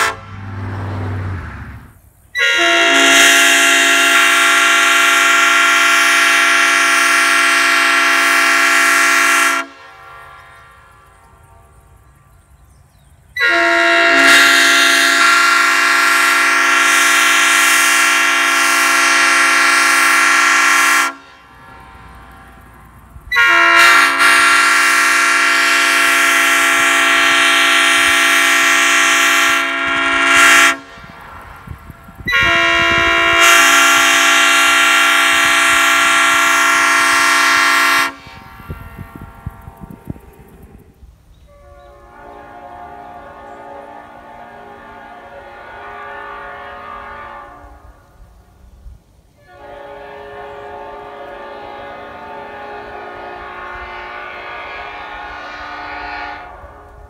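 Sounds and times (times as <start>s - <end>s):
train horn chord blasts: 0.0s - 1.4s, 2.3s - 48.7s, 49.3s - 57.0s.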